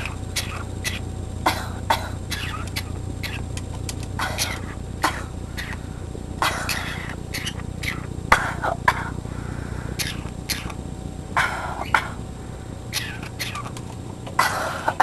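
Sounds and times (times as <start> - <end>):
parrot coughing: 0.0 - 3.5, 4.2 - 15.0.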